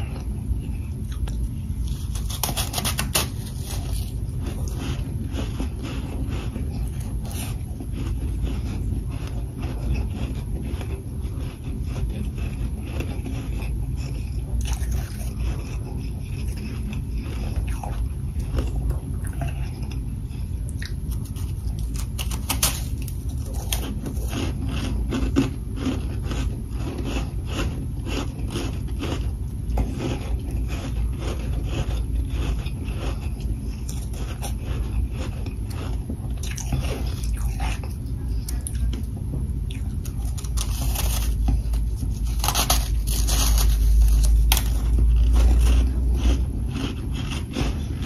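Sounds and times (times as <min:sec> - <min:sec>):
frost crunching as it is chewed: 0:00.0 - 0:48.0
steady low rumble: 0:00.0 - 0:48.0.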